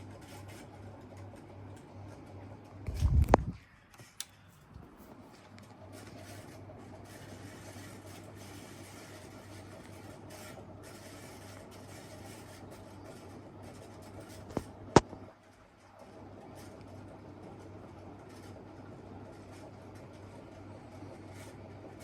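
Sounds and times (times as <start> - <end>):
ceiling fan humming: 0.0 - 22.0.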